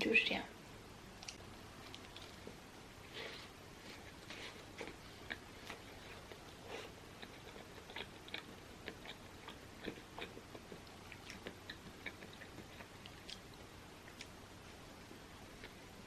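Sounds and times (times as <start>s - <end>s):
soft chewing: 1.2s - 16.0s.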